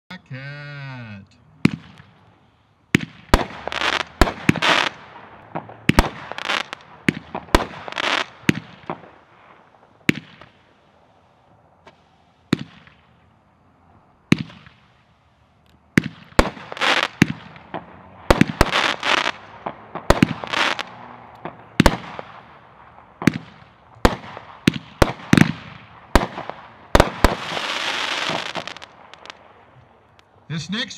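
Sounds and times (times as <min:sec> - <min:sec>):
firework reports: 0:00.1 - 0:13.2, 0:14.3 - 0:30.9
firework shots hissing: 0:01.6 - 0:13.2, 0:14.3 - 0:29.7.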